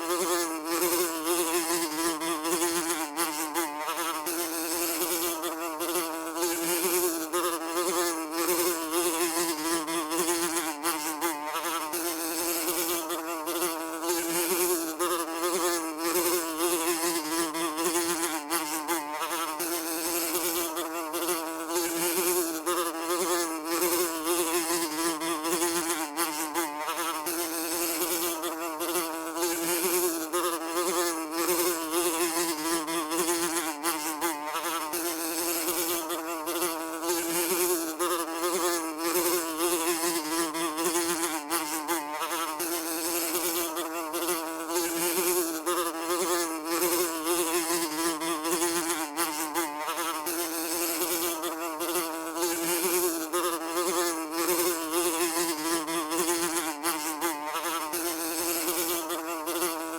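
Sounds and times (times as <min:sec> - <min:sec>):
fly buzzing: 0:00.0 - 0:59.9.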